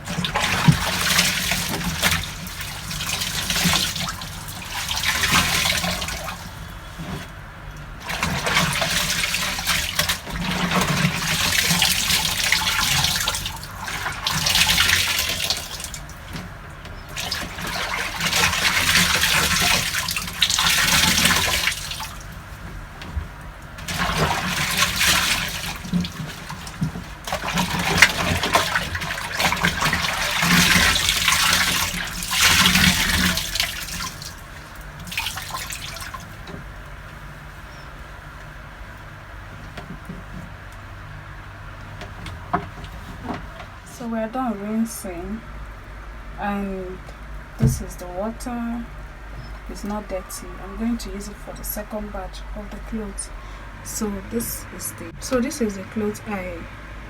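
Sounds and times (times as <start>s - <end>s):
water sloshing in washing machine: 0.0s - 57.0s.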